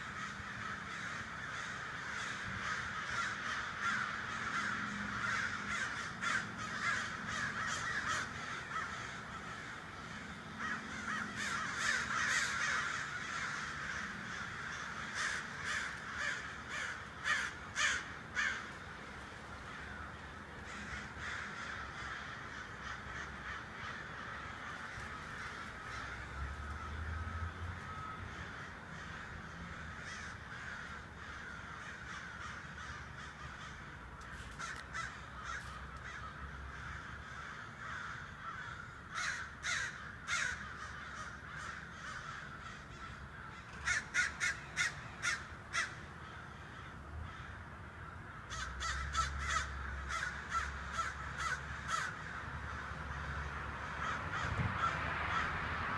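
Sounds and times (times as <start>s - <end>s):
flock of birds calling: 0.0s - 55.6s.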